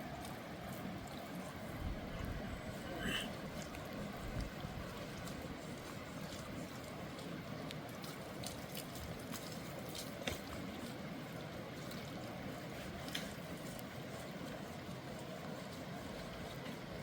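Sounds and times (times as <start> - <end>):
sharp drip-like ticks: 0.0 - 17.0
trickling water: 0.0 - 17.0.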